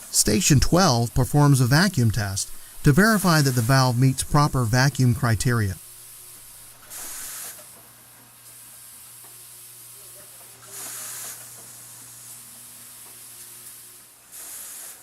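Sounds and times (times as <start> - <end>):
compressed air hiss: 0.0 - 7.8, 9.9 - 15.0.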